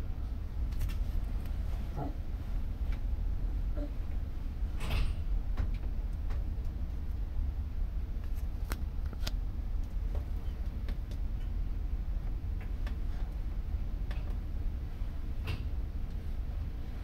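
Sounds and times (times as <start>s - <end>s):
ferry engine rumble: 0.0s - 17.0s.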